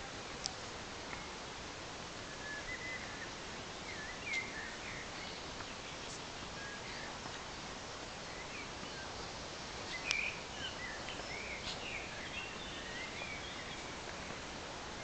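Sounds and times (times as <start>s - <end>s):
steady hiss: 0.0s - 15.0s
birds chirping: 2.2s - 14.6s.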